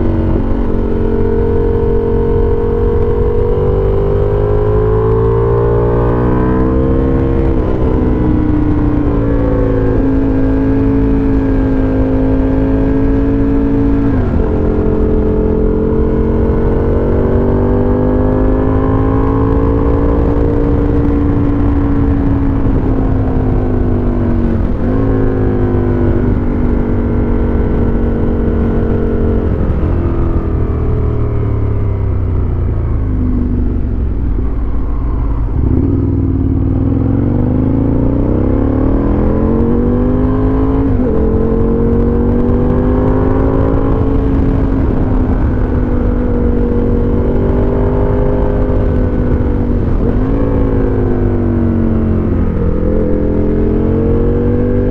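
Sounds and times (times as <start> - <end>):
motorcycle engine revving while riding: 0.0 - 54.9.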